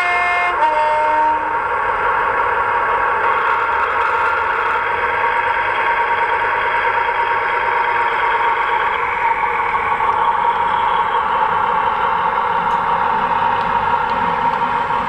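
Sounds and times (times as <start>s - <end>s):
diesel railcar engine drone: 0.0s - 15.0s.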